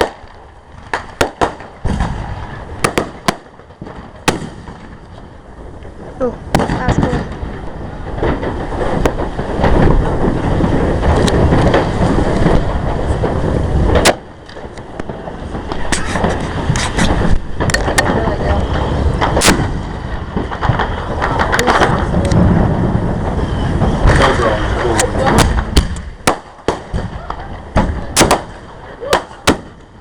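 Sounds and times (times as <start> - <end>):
sharp firework bang: 0.0 - 5.1, 6.0 - 30.0
fireworks booming and crackling: 0.0 - 30.0.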